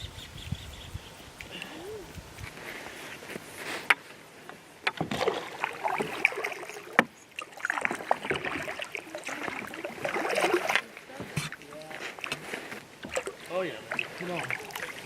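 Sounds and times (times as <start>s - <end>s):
water splashing around kayak: 2.1s - 15.0s.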